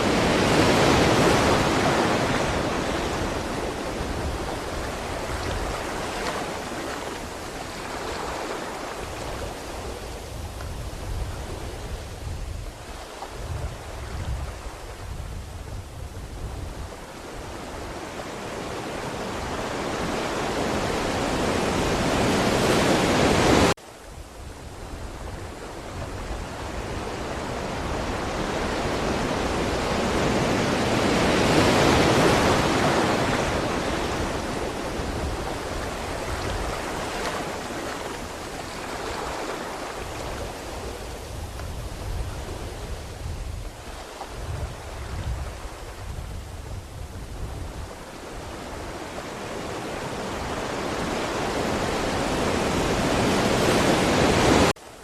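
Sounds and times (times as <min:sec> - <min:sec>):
ocean waves rushing: 0:00.0 - 0:15.2, 0:16.8 - 0:23.8, 0:24.7 - 0:46.6, 0:47.7 - 0:54.9.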